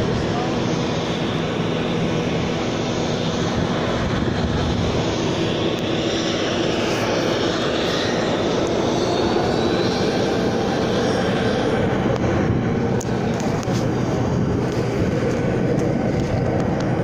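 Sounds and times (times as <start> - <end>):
jet aircraft rush: 0.0 - 17.0
steady humming tones: 0.0 - 17.0.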